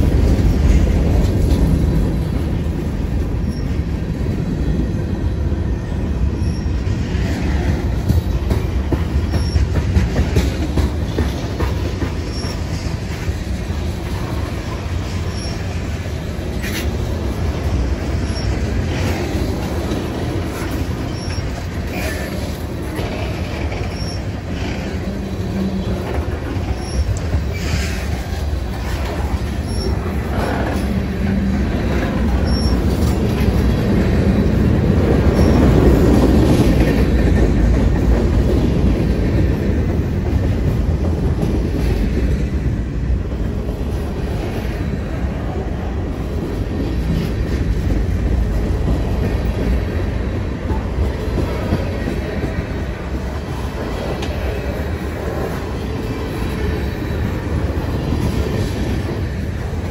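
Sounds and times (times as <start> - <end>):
freight train cars rumbling: 0.0 - 59.9
train clanks and squeaks: 0.0 - 59.9.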